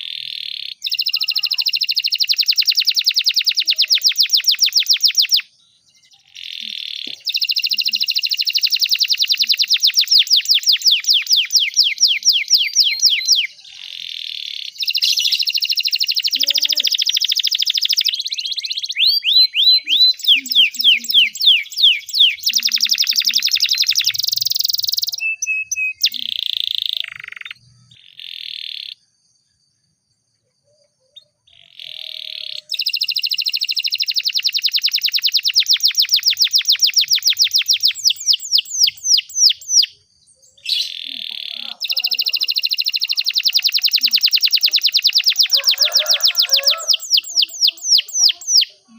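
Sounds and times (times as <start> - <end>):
canary singing trills: 0.0 - 29.2, 30.4 - 48.9.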